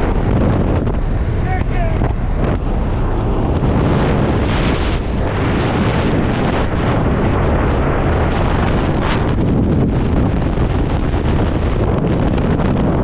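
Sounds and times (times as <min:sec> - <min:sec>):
loud wind buffeting microphone: 0:00.0 - 0:13.0.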